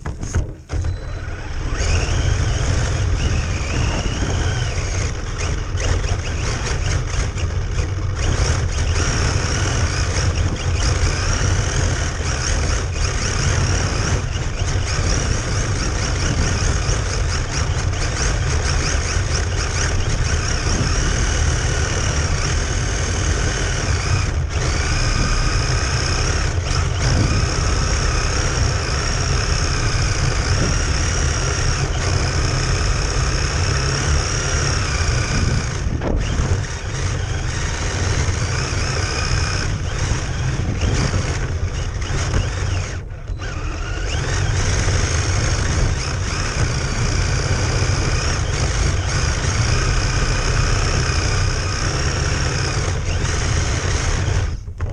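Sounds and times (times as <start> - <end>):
rc car motors whining: 0.0 - 54.9.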